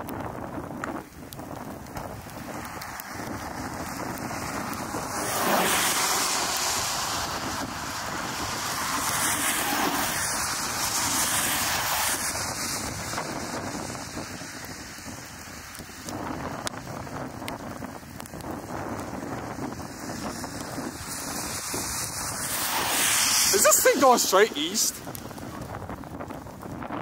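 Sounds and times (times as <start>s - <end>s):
wind gusting on microphone: 0.0s - 27.0s.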